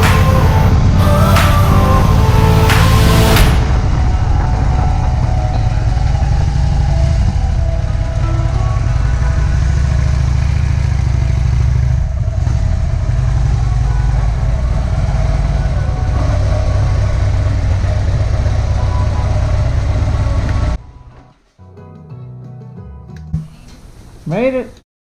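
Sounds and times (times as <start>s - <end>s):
motorcycle engine rumbling: 0.0s - 21.2s.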